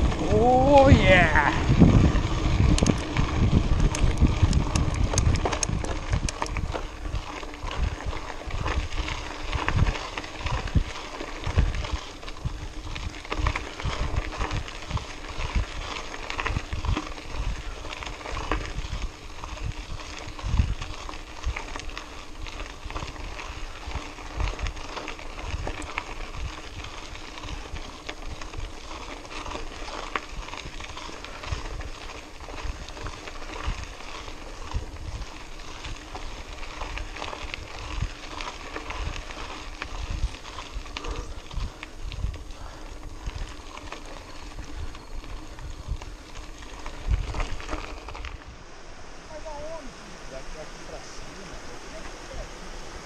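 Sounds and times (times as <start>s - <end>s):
bike rattling over bumps: 0.0s - 53.0s
bike tyres crunching on gravel: 0.0s - 53.0s.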